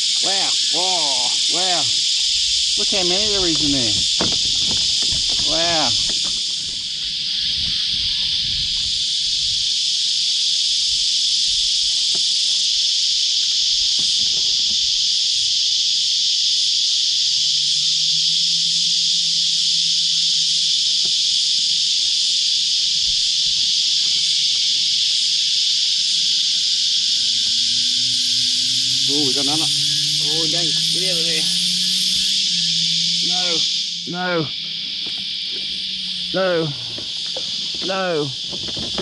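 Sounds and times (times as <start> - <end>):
cicadas droning: 0.0 - 39.0.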